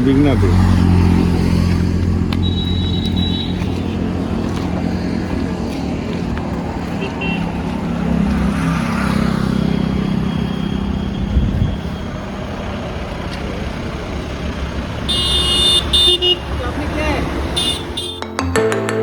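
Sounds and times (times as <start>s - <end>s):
heavy vehicle engine humming: 0.0s - 18.2s
highway road noise: 0.0s - 18.3s.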